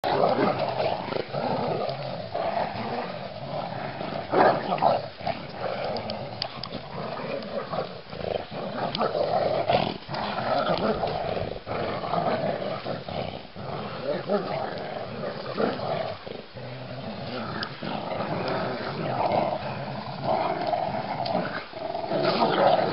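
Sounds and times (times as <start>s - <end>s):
dogs growling: 0.0s - 22.9s.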